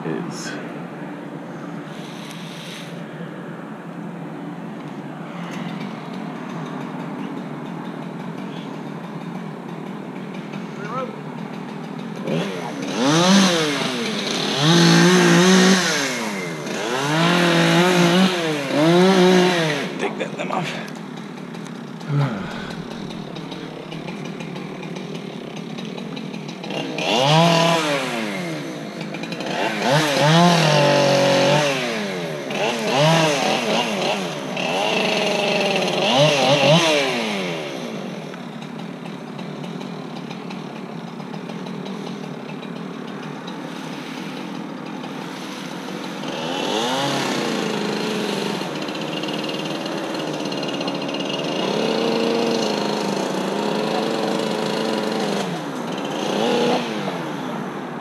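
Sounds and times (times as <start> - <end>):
chainsaw engine revving: 1.9 - 3.0, 5.3 - 58.0.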